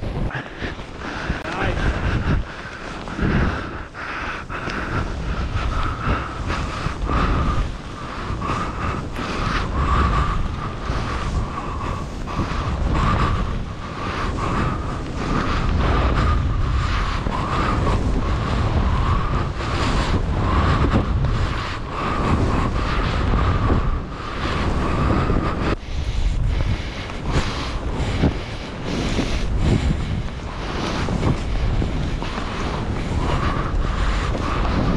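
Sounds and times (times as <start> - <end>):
skis carving through snow: 0.0 - 34.9
wind buffeting microphone: 0.0 - 34.9.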